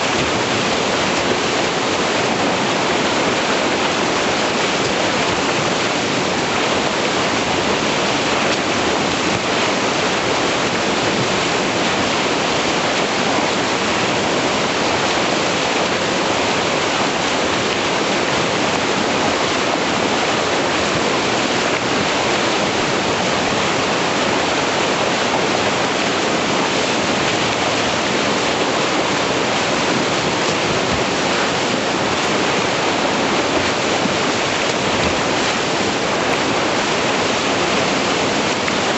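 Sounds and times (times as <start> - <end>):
whitewater rushing: 0.0 - 38.9.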